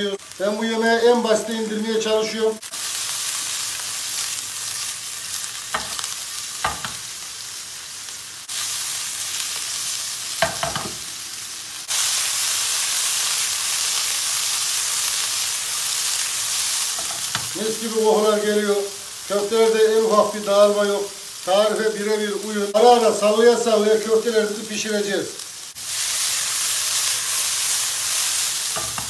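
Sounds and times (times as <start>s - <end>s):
meatballs sizzling in a pan: 0.0s - 29.0s.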